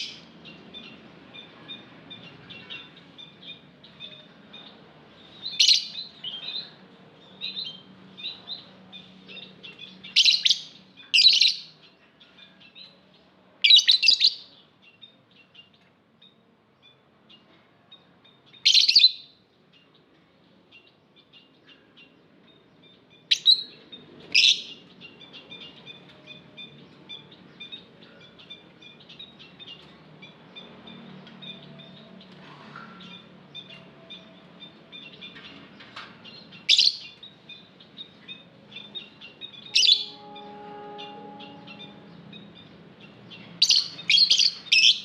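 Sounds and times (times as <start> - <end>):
loud sharp bird calls: 0.0 - 13.1, 20.8 - 45.0
lovebirds chirping: 0.0 - 17.6, 18.3 - 45.0.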